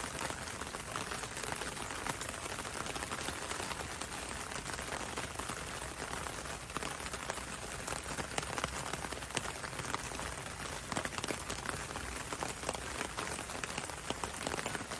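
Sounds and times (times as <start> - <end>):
rain on window and road: 0.0 - 14.9.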